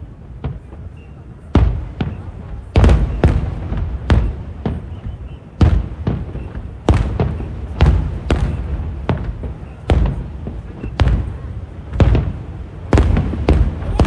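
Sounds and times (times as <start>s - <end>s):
fireworks bangs with low rumble: 0.0s - 14.0s.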